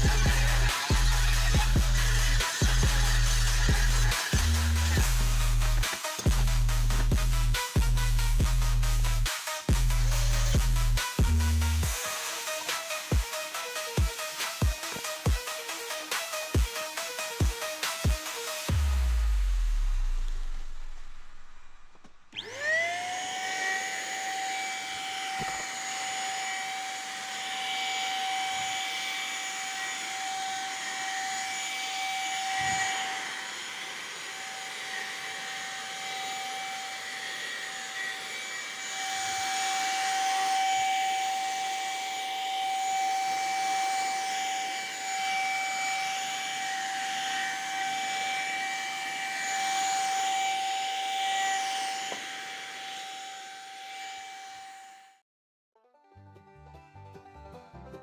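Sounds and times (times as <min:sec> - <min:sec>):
paint spray gun motor whining: 0:00.0 - 0:55.2.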